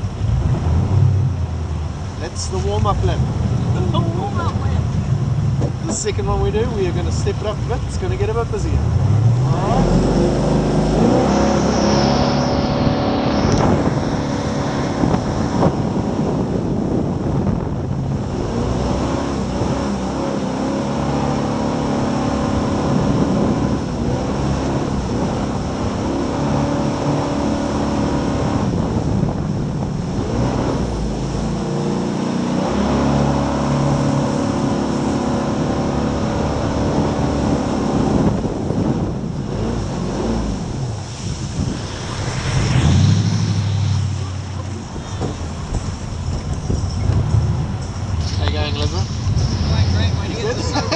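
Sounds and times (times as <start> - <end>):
boat engine revving: 0.0 - 50.9
steady rushing noise: 0.0 - 50.9.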